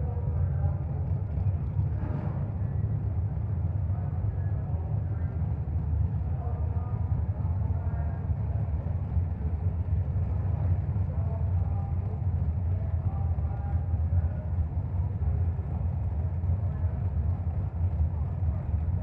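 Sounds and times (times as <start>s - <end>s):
engines idling: 0.0s - 19.0s
faint voices: 0.0s - 19.0s.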